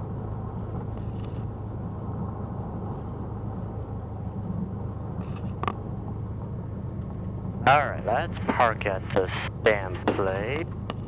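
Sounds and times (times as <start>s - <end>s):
small plane engine running: 0.0s - 11.0s.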